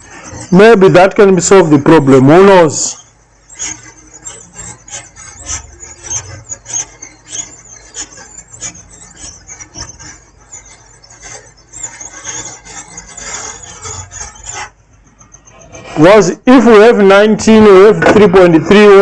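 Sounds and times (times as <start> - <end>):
scratchy scraping on circuit board: 0.0 - 19.0.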